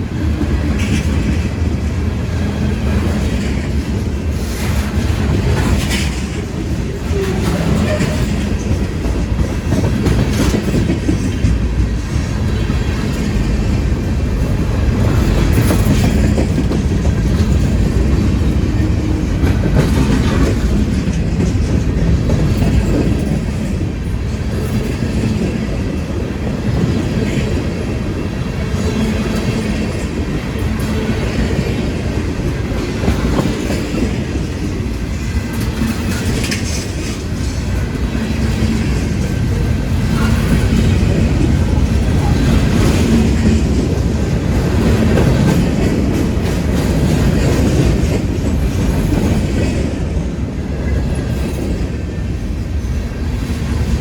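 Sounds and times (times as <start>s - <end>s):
train wheels rumbling on rail: 0.0s - 54.0s
wheels clacking over rail joints: 0.0s - 54.0s.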